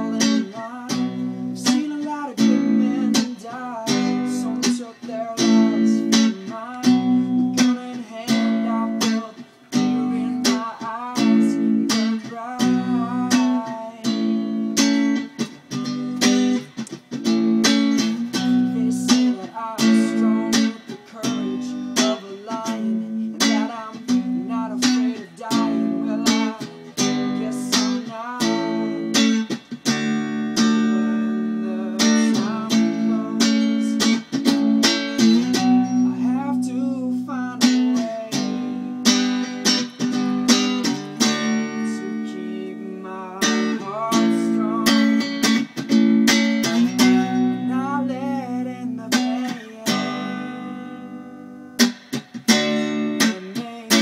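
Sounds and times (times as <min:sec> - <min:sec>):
electric guitar lead melody: 0:00.0 - 0:54.0.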